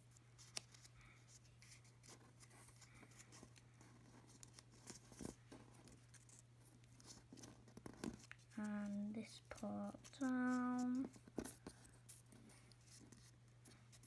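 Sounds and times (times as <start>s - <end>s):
low steady hum: 0.0s - 14.0s
paper rustling and crinkling: 0.0s - 14.0s
sharp paper ticks: 1.6s - 14.0s.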